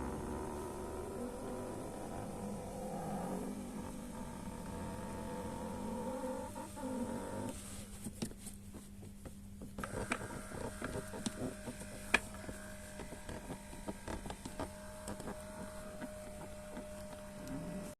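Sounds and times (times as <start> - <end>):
massage rollers creaking and squeaking: 0.0 - 7.8, 9.0 - 17.9
electric massager motor hum: 0.0 - 7.9, 9.6 - 17.9.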